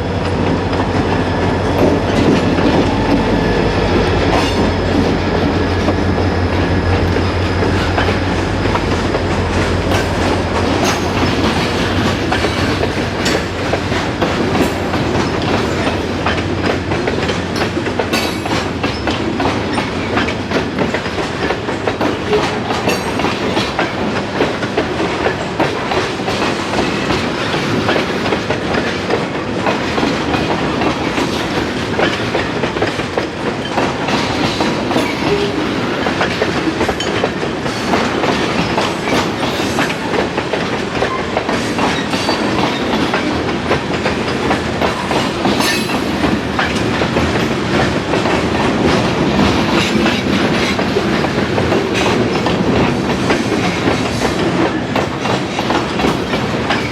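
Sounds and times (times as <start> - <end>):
train wheels clattering over rail joints: 0.1 - 56.9.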